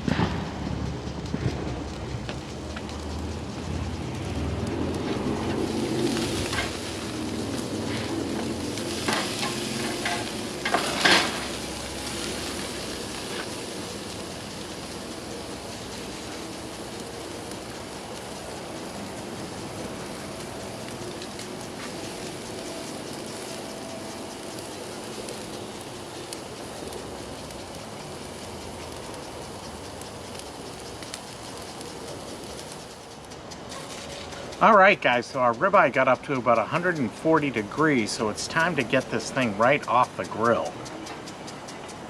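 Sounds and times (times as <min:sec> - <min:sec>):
steak sizzling on a grill: 0:00.2 - 0:41.7.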